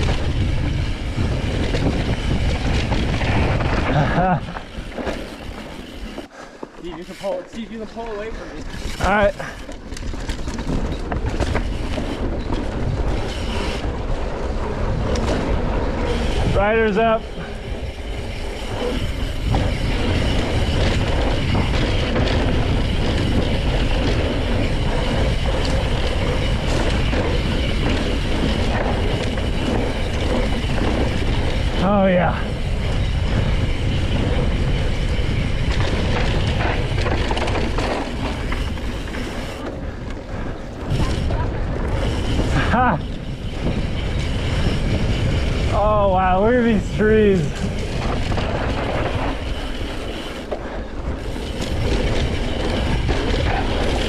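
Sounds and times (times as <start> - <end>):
wind buffeting microphone: 0.0 - 6.2, 8.4 - 54.0
bike rattling clicks and knocks: 0.0 - 54.0
bike tyres rumbling on dirt: 0.0 - 54.0.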